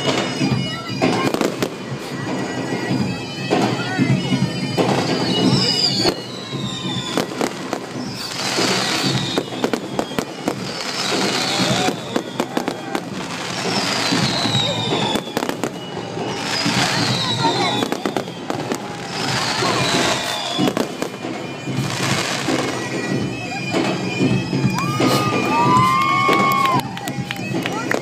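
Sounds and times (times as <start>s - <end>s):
falling firework whistles: 0.0s - 28.0s
fireworks bangs and crackling: 0.0s - 28.0s.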